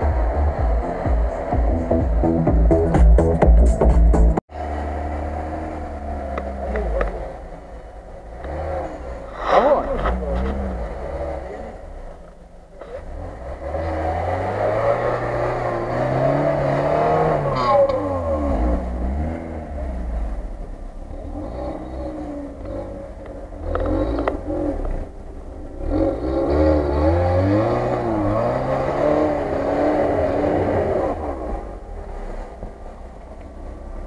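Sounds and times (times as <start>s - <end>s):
car engine revving under load: 0.0s - 34.0s.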